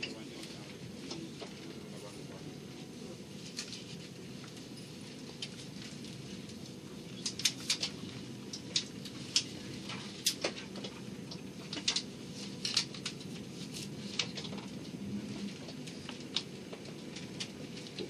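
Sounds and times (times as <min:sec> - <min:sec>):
train rumbling from inside carriage: 0:00.0 - 0:18.0.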